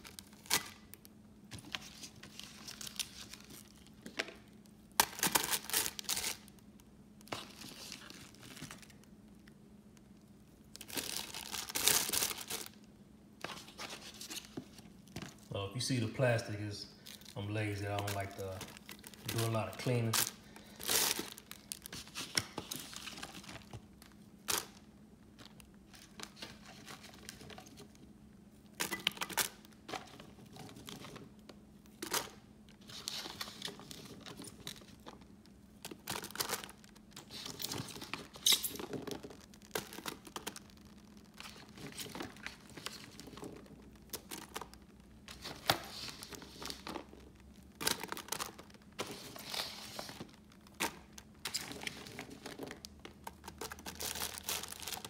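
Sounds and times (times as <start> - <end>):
faint steady hum: 0.0 - 55.0
plastic liner crinkling: 0.0 - 55.0.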